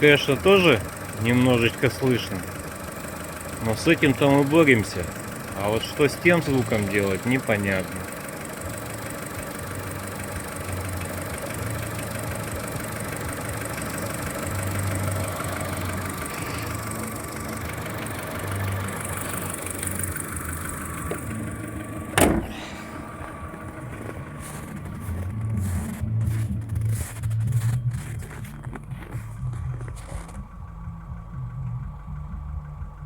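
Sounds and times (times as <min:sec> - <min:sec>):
car engine idling: 0:00.0 - 0:33.0
engine knocking: 0:00.0 - 0:33.0
engine lifters ticking: 0:00.0 - 0:33.0.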